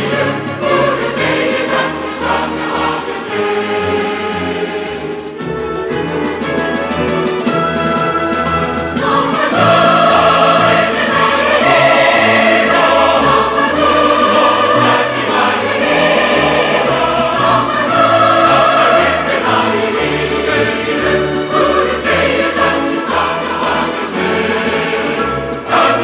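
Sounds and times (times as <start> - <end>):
mixed choir singing: 0.0 - 5.4, 8.7 - 26.0
orchestra playing: 0.0 - 26.0.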